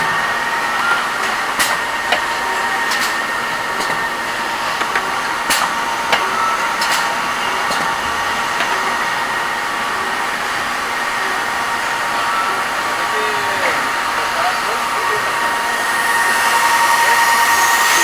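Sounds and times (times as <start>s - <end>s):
machine whirring: 0.0s - 18.0s.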